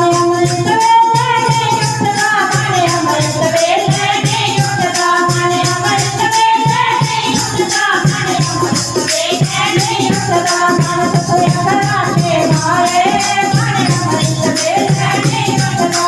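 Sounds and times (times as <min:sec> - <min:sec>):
jingling percussion: 0:00.0 - 0:16.0
steady drum beat: 0:00.0 - 0:16.0.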